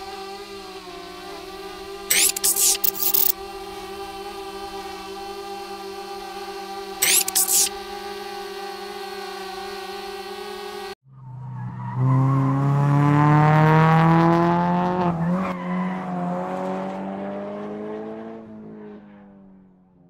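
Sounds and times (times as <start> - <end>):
vehicle engine accelerating: 0.0 - 20.0.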